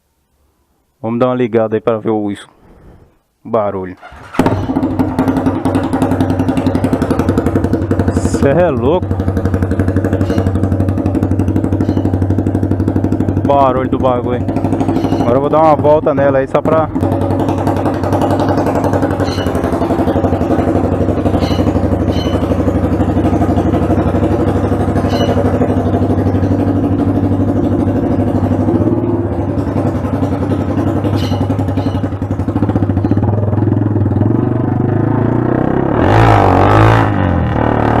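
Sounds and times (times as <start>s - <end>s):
motorcycle engine running: 4.1s - 38.0s.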